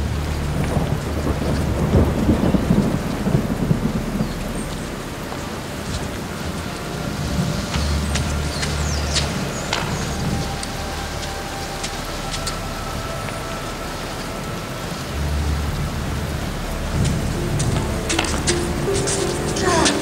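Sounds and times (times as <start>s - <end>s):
low hum: 0.0s - 20.0s
rolling thunder: 0.0s - 20.0s
steady rain: 0.0s - 20.0s.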